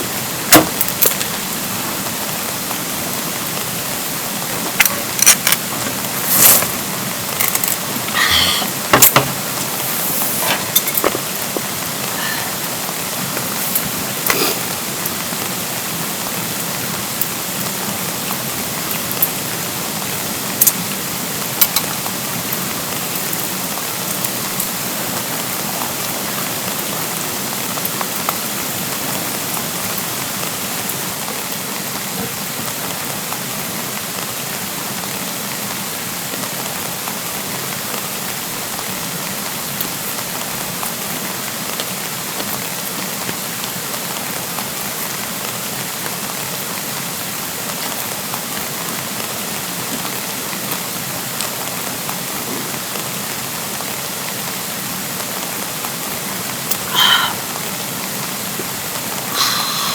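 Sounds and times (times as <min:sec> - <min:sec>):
steady rain falling: 0:00.0 - 0:08.2, 0:09.2 - 0:59.9.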